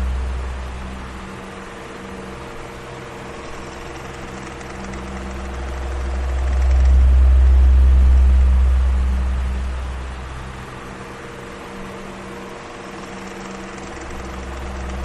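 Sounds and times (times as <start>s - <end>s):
electric fan running: 0.0s - 15.0s
low rumble of airflow: 0.0s - 15.0s.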